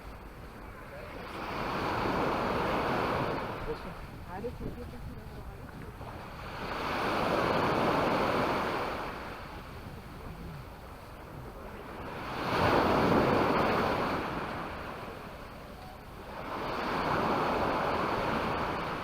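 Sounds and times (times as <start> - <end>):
small waves washing on sand: 0.0 - 19.0.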